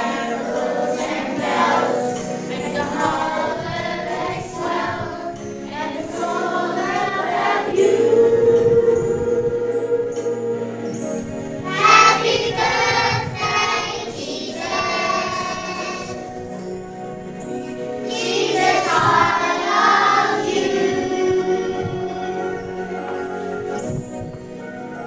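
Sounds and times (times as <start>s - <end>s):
children singing: 0.0s - 16.4s, 17.5s - 23.9s
backing music: 0.0s - 25.0s.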